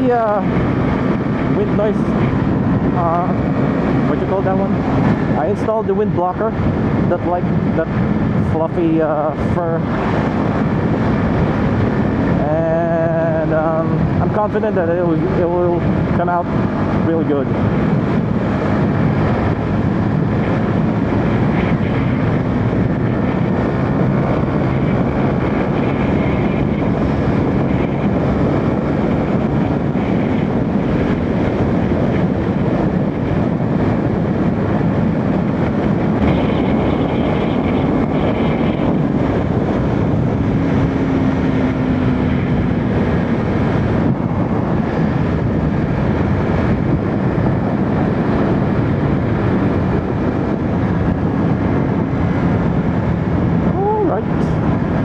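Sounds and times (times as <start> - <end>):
faint motorcycle engine hum: 0.0 - 55.0
wind and road noise: 0.0 - 55.0.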